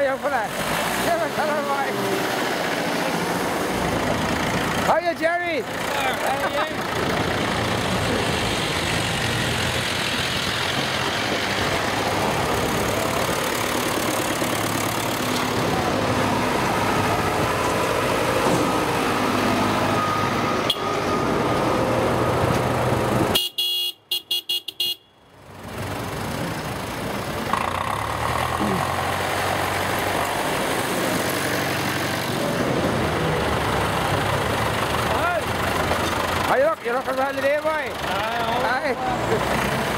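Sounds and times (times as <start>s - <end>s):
tractor engines running: 0.0s - 23.4s, 25.3s - 39.9s.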